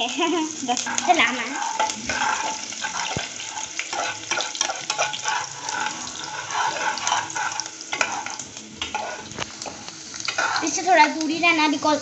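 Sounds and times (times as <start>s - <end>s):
garlic sizzling in hot oil: 0.0s - 12.0s
spatula stirring in pan: 0.1s - 11.7s.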